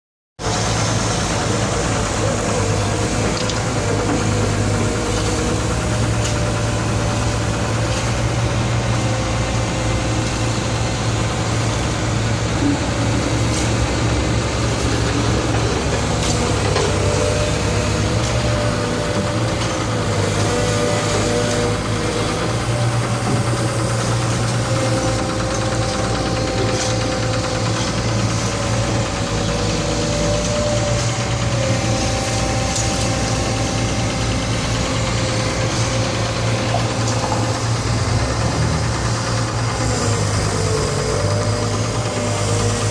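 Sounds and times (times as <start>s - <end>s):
excavator diesel engine running: 0.4s - 42.9s.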